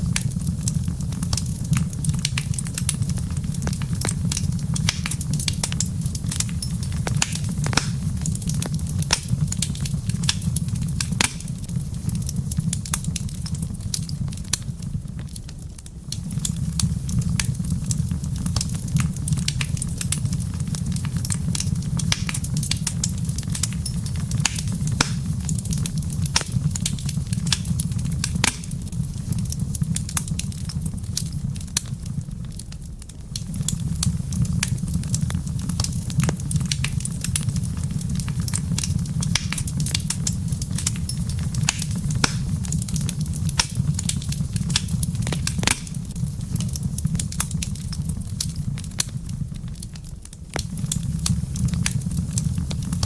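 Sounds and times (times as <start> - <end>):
low fire rumble: 0.0 - 53.0
wood fire crackling: 0.0 - 53.0.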